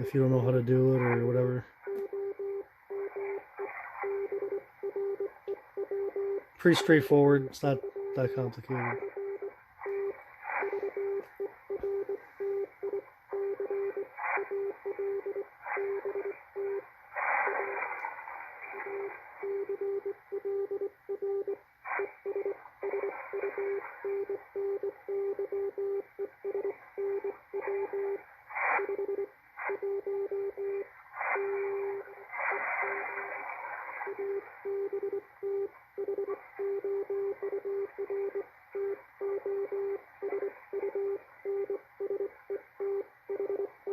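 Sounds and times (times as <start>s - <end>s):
radio band hiss and static: 0.0s - 43.9s
morse code beeps: 1.8s - 3.4s, 4.0s - 16.8s, 18.8s - 21.6s, 22.2s - 28.2s, 28.8s - 30.8s, 31.4s - 32.1s, 34.1s - 43.9s.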